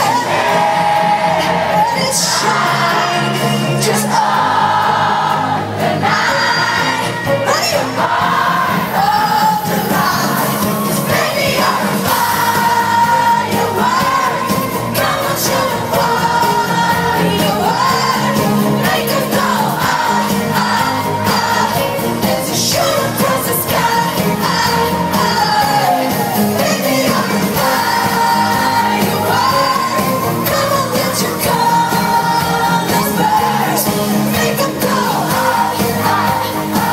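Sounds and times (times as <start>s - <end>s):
band playing: 0.0s - 36.9s
crowd noise: 0.0s - 36.9s.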